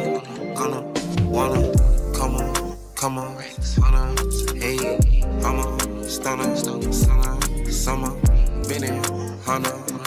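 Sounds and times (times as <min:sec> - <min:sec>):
hip hop music: 0:00.0 - 0:10.0.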